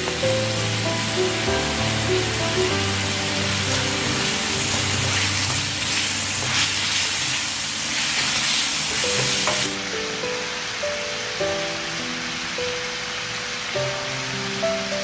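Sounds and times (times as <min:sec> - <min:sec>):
background music: 0:00.0 - 0:07.0, 0:09.7 - 0:15.0
food sizzling in a pan: 0:00.0 - 0:15.0.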